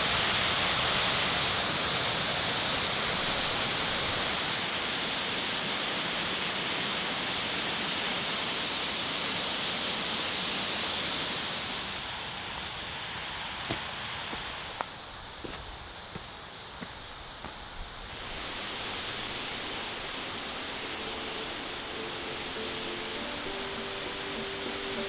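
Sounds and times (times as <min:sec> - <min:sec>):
waterfall rushing: 0:00.0 - 0:14.8, 0:18.0 - 0:25.0.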